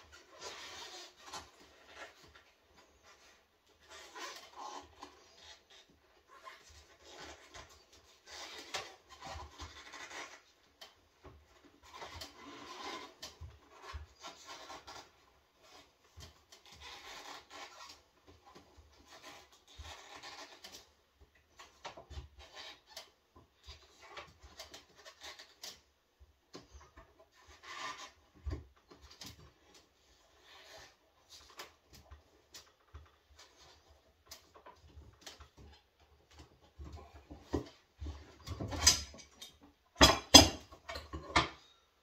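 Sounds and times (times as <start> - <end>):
scraping and rubbing strokes: 0.0 - 25.9, 26.6 - 39.6.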